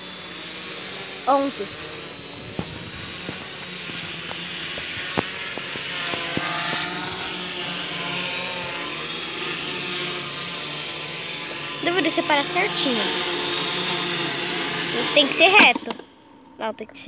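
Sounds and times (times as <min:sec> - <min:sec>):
quadcopter motors whirring: 0:00.0 - 0:17.0.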